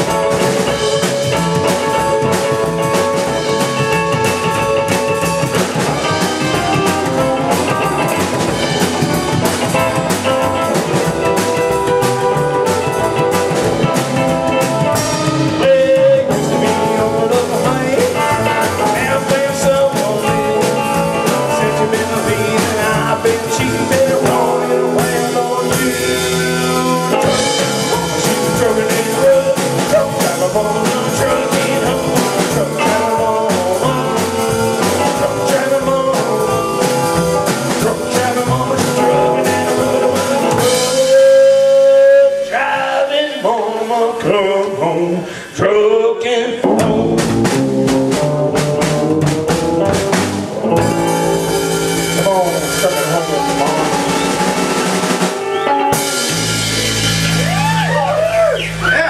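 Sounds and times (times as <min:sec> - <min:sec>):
rock band playing blues-rock: 0:00.0 - 0:44.9, 0:46.6 - 0:59.0.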